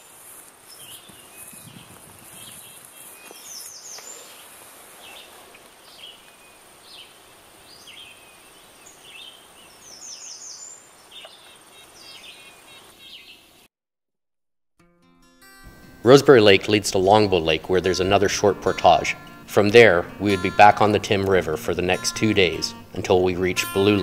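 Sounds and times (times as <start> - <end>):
birds chirping: 0.7 - 13.6, 16.5 - 24.0.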